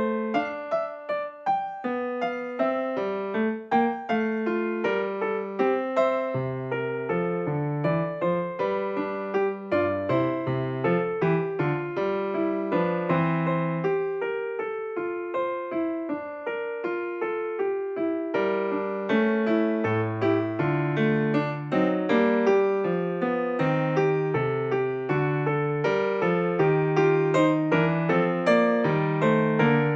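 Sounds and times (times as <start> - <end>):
electric piano notes: 0.0 - 29.9.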